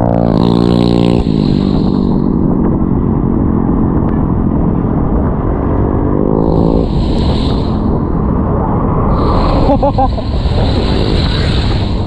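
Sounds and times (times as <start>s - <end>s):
motorcycle engine: 0.0s - 12.0s
wind rumble on microphone: 0.0s - 12.0s.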